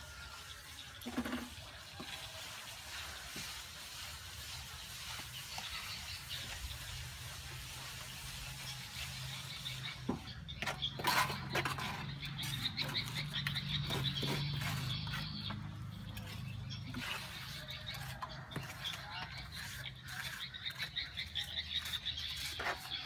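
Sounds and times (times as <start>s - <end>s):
trowels scraping cement: 0.1s - 23.0s.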